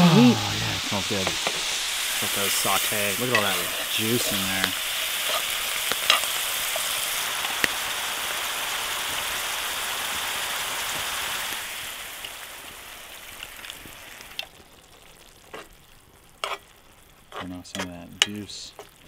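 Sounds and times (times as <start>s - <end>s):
mushrooms and onions sizzling in skillet: 0.0s - 19.0s.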